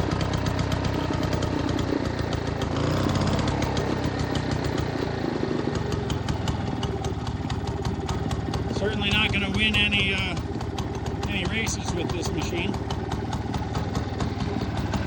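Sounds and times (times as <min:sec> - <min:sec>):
rototiller engine running: 0:00.0 - 0:15.0.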